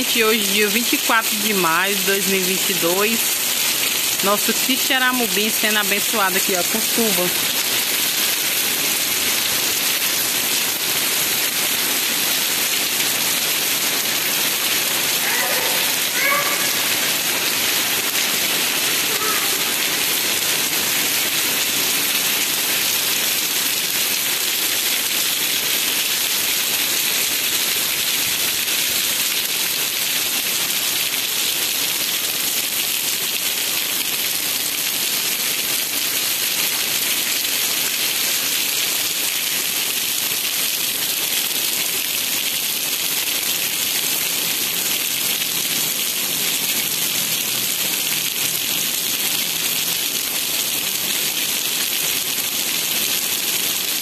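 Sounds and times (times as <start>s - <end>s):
rain on cobblestone street: 0.0s - 54.0s.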